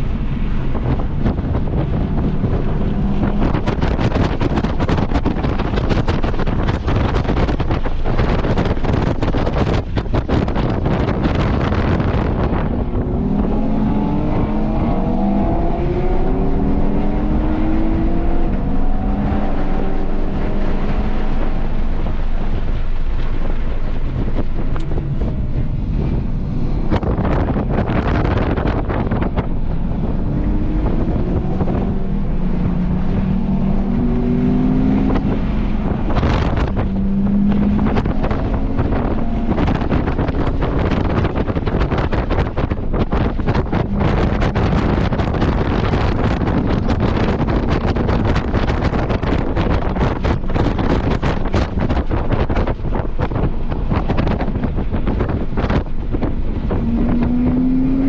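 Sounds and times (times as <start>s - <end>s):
car engine accelerating: 0.0s - 58.0s
wind buffeting microphone: 0.0s - 58.0s.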